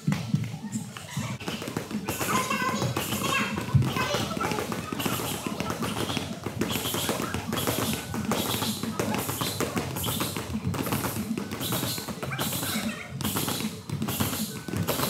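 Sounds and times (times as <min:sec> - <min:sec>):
punches and kicks on strike pads: 0:01.4 - 0:15.0.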